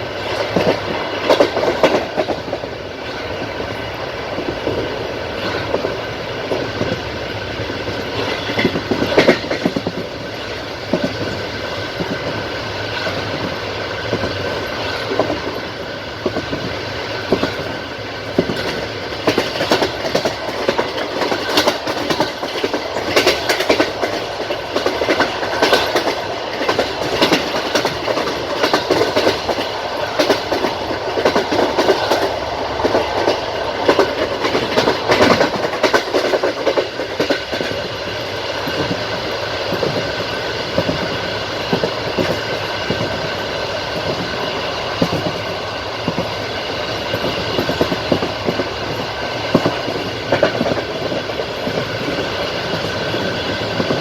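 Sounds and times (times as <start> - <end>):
steady train rumble: 0.0 - 54.0
train wheels clattering on rails: 0.0 - 54.0.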